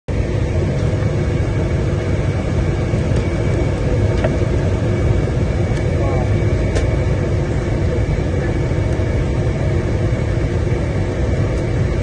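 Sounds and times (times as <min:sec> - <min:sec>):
airliner engine rumble: 0:00.1 - 0:12.0.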